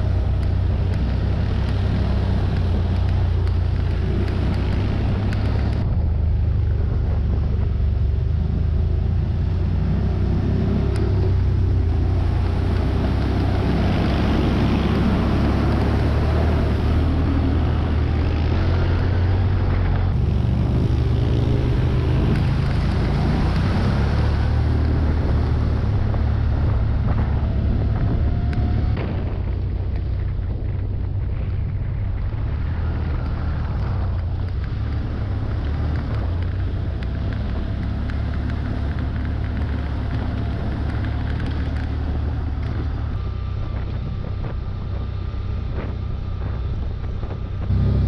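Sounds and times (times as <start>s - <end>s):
side-by-side engine running: 0.0s - 48.0s.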